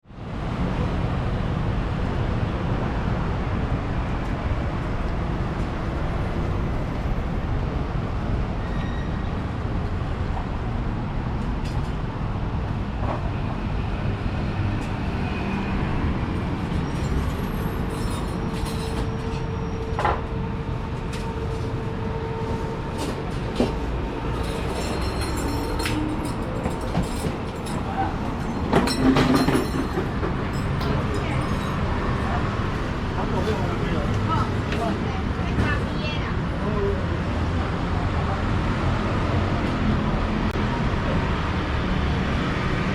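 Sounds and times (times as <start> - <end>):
city traffic rumble: 0.0 - 42.9.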